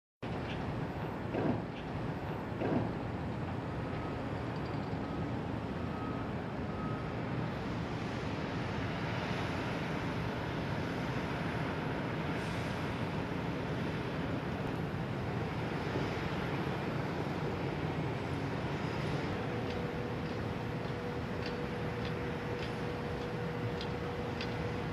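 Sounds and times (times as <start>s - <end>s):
distant city traffic: 0.2s - 24.9s.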